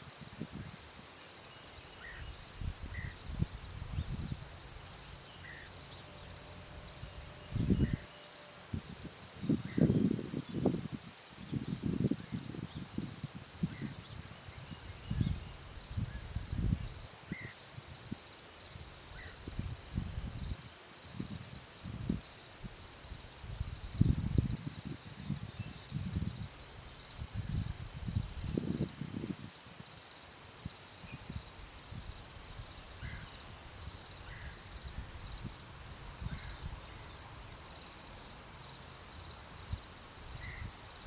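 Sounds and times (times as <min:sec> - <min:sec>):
insects trilling: 0:00.1 - 0:41.0.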